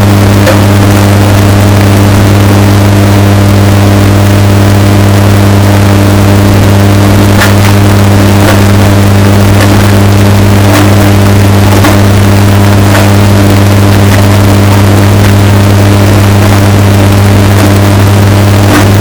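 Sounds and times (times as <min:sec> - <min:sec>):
distorted washing machine motor hum: 0:00.0 - 0:19.0.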